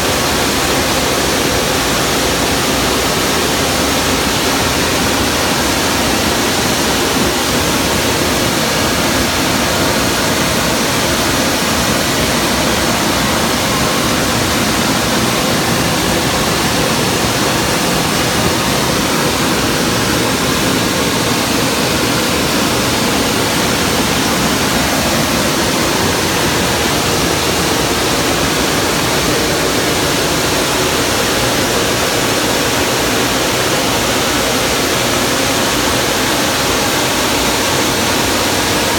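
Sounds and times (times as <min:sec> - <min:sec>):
automatic car wash running: 0:00.0 - 0:38.9.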